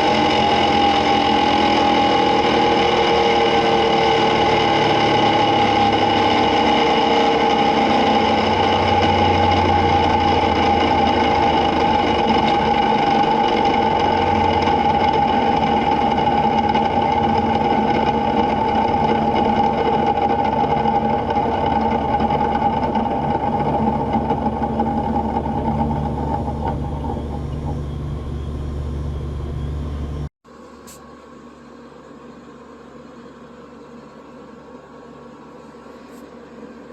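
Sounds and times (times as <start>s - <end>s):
gear rig whining: 0.0s - 30.3s.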